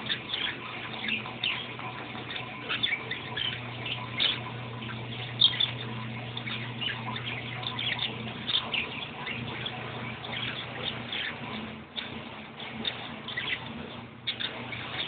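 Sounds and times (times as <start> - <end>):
caged birds chirping: 0.0 - 15.0
steady low hum: 0.0 - 15.0.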